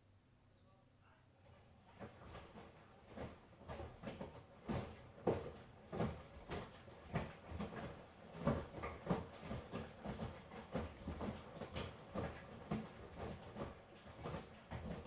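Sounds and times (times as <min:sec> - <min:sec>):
washing machine running hum: 0:01.4 - 0:15.0.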